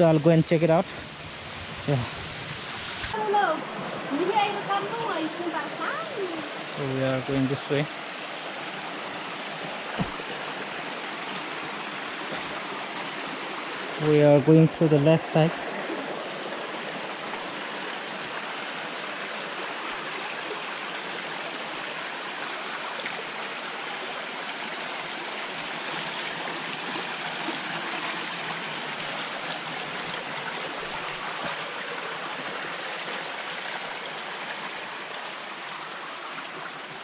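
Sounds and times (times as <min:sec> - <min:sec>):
stream water rushing over rocks: 0:00.0 - 0:37.0.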